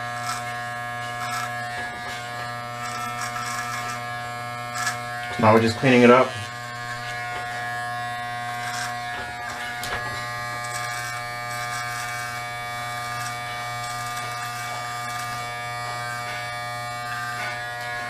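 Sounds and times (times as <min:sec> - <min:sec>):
electric hair trimmer buzzing: 0:00.0 - 0:18.0.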